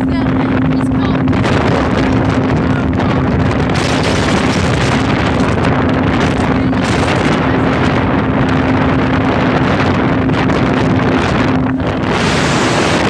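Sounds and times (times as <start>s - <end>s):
motorboat engine hum: 0.0s - 13.0s
wind buffeting microphone: 0.0s - 13.0s.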